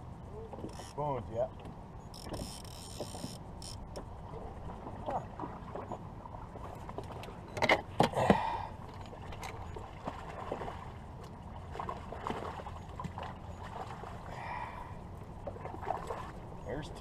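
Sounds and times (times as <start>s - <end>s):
river and boat noise: 0.0s - 17.0s.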